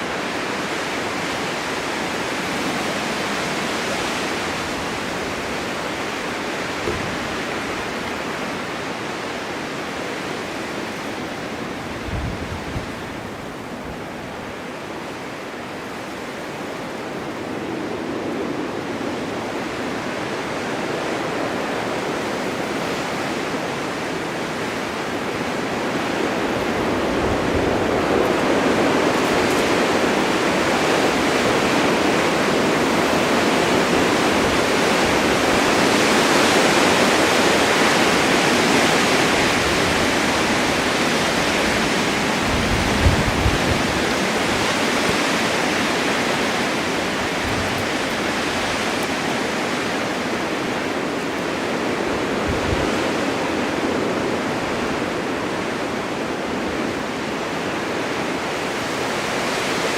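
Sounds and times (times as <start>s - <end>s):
blizzard wind rushing: 0.0s - 59.9s.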